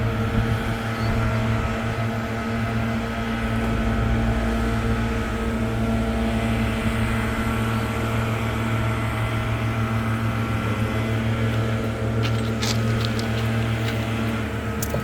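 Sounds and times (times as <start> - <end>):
gas leaf blower engine droning: 0.0 - 15.0.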